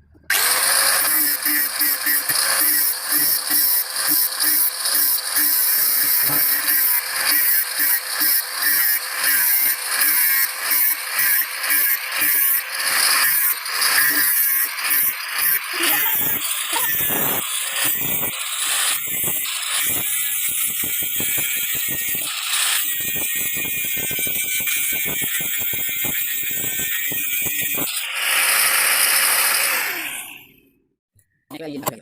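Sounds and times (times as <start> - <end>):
tool rasping: 0.2 - 30.5.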